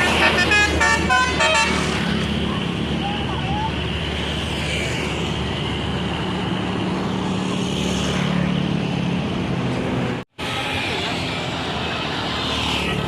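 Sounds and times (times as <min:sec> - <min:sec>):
road traffic passing: 0:00.0 - 0:13.0
vehicle engine drone: 0:00.0 - 0:13.0.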